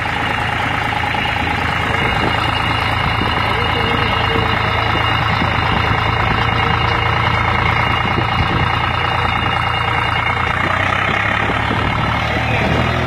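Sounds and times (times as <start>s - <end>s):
constant rushing noise: 0.0s - 13.0s
engine running: 0.0s - 13.0s.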